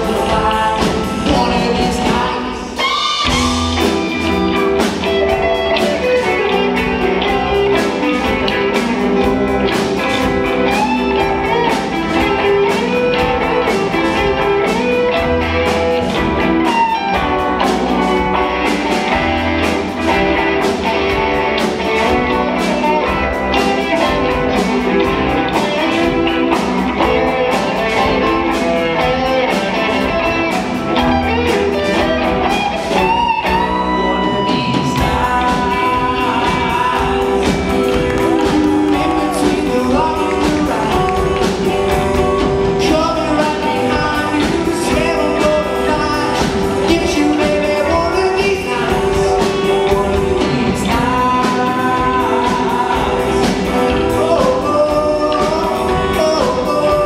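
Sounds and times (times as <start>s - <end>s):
lead singer singing: 0.0s - 57.0s
rock band playing: 0.0s - 57.0s.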